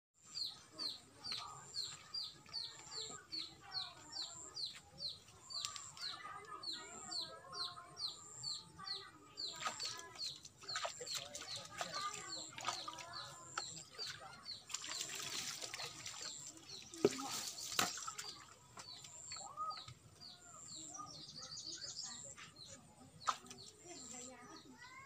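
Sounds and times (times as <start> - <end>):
bird chirping: 0.2 - 25.0.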